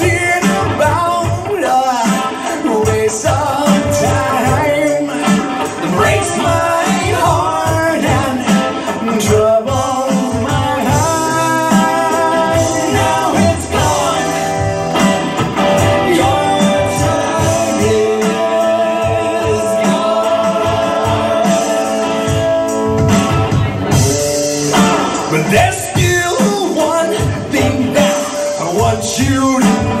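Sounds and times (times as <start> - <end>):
man singing into microphone: 0.0 - 22.7, 23.9 - 30.0
drum kit beat: 0.0 - 30.0
electric guitar: 0.0 - 30.0.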